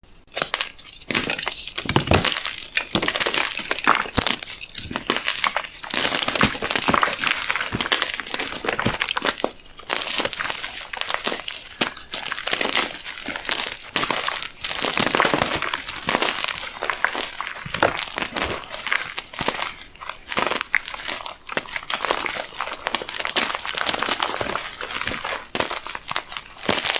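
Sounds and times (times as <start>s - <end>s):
chalk crunching and crackling: 0.3s - 26.9s.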